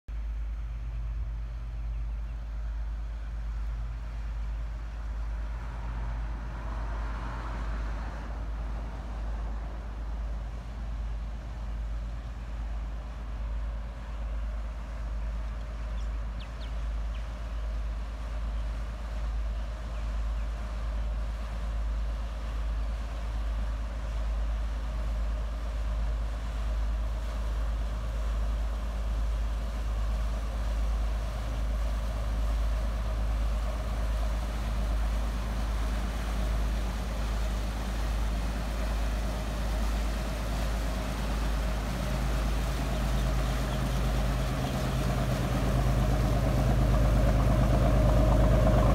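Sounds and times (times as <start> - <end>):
boat diesel engine throbbing: 0.2 - 48.9.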